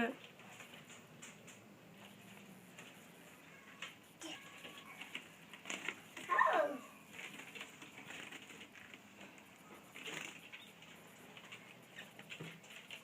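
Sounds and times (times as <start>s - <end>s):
birds scratching and rustling: 0.0s - 13.0s.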